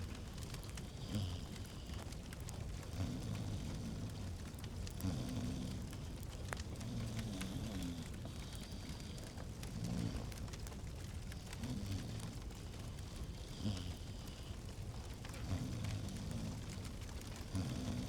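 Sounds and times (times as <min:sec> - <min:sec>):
fire pops and ticks: 0:00.0 - 0:18.0
low fire rumble: 0:00.0 - 0:18.0.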